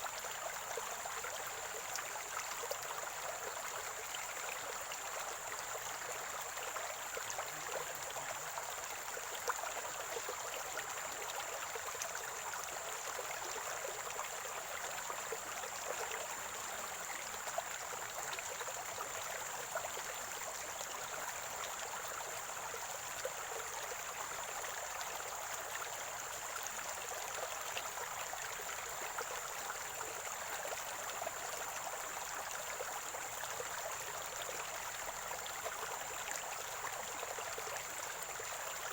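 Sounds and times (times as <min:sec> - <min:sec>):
stream gurgling and trickling: 0:00.0 - 0:38.9.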